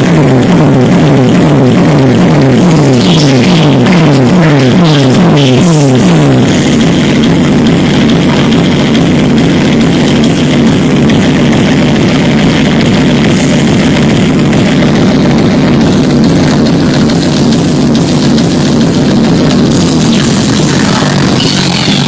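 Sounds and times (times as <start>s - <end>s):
loud music with steady beat: 0.0s - 22.0s.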